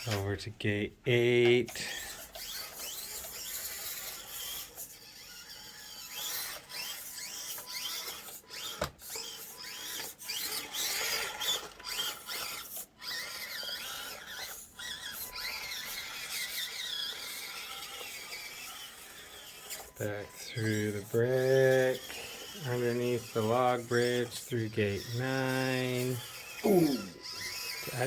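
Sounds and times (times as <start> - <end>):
toy car electric motor whining: 0.0 - 0.4, 1.2 - 28.0.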